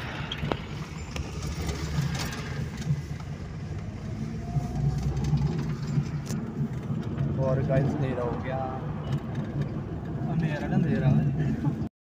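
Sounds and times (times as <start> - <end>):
car engine and tyre noise: 0.0 - 11.9.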